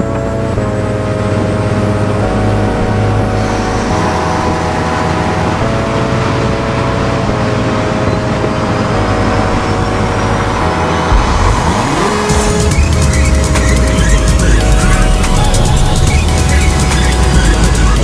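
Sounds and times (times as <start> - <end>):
background music with bass line: 0.0 - 18.0
steady rushing noise: 0.0 - 18.0.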